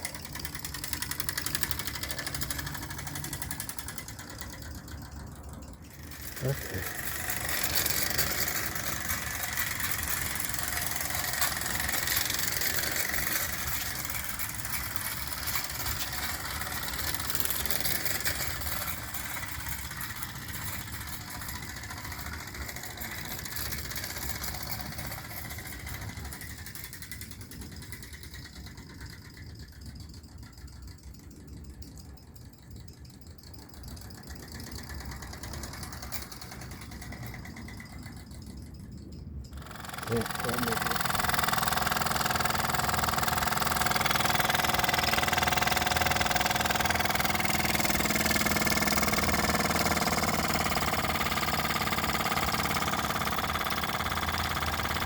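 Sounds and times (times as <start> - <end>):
toy steam engine chuffing: 0.0 - 55.0.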